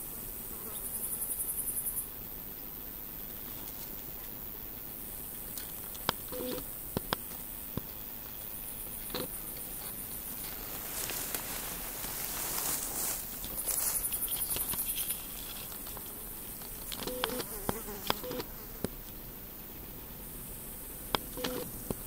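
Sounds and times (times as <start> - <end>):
high hiss of singing insects: 0.0 - 22.0
insect pulsed buzz: 0.0 - 22.0
grass rustling against microphone: 2.9 - 22.0.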